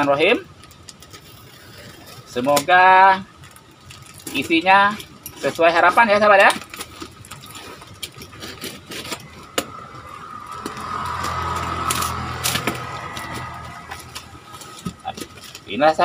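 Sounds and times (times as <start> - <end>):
cardboard parcel being opened: 0.0 - 16.0.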